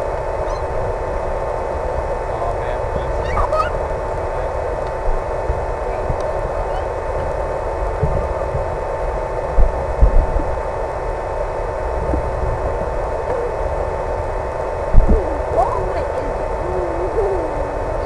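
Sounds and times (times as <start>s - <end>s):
low thumps of wind buffeting: 0.0s - 18.0s
wind: 0.0s - 18.0s.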